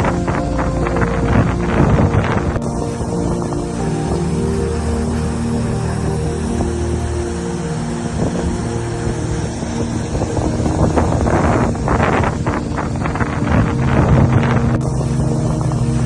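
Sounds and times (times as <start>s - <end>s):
background music: 0.0s - 16.0s
steady rushing noise: 0.0s - 16.0s
wind gusting against microphone: 0.0s - 16.0s.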